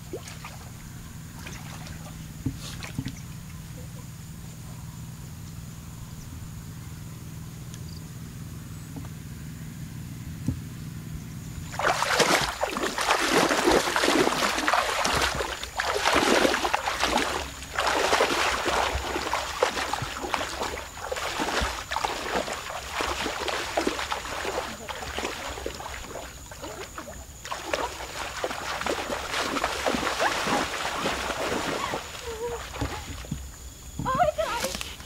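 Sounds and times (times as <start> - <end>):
wading through shallow water: 0.0 - 4.8, 11.5 - 35.0.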